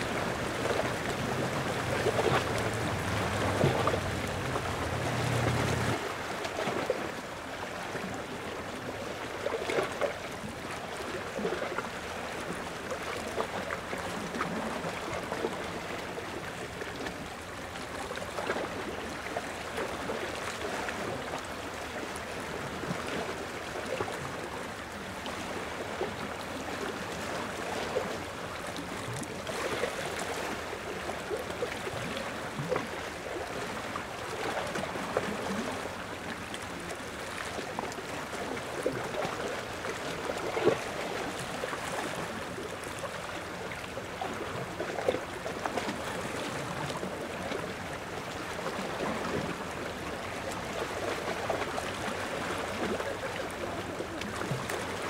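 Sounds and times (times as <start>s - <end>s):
small waves lapping at shore: 0.0s - 55.0s.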